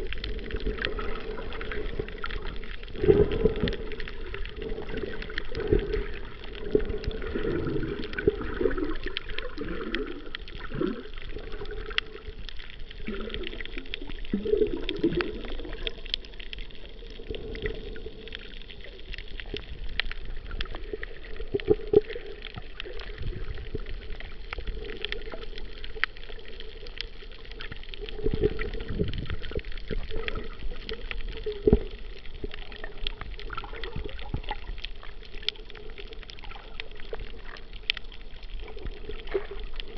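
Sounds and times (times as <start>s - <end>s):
faint scattered clicks: 0.0s - 39.9s
water gurgling and sloshing underwater: 0.0s - 39.9s.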